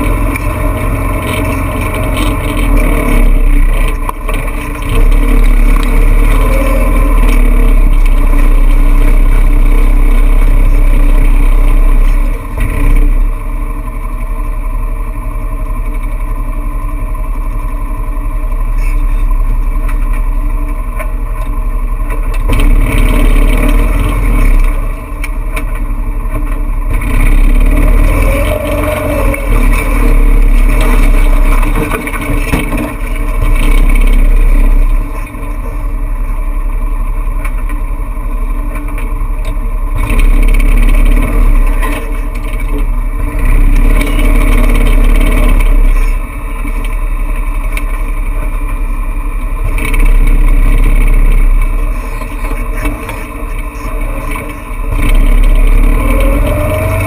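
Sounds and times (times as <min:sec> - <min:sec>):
off-road vehicle engine rumbling: 0:00.0 - 0:57.0.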